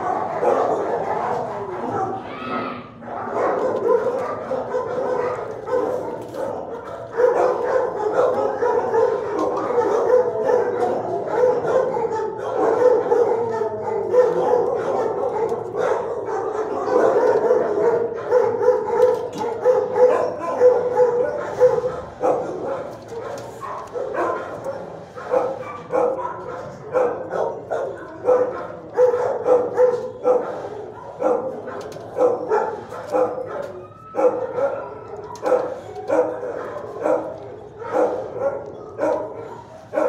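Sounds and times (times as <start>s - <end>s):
single dog barking: 0.0s - 2.2s, 3.2s - 40.0s
dogs barking: 0.0s - 2.3s, 2.9s - 40.0s.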